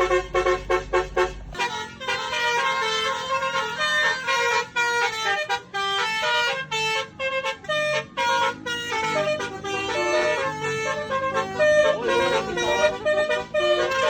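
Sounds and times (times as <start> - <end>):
multi-tone bus horn tune: 0.0 - 14.0.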